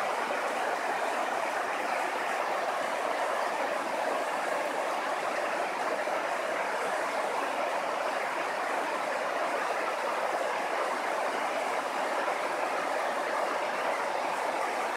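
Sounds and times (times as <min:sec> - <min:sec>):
river rushing over a weir: 0:00.0 - 0:14.9.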